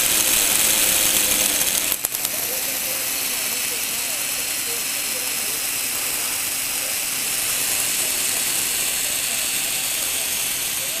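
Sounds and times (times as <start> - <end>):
electric motor whirring: 0.0 - 11.0
plastic gears meshing: 0.0 - 11.0.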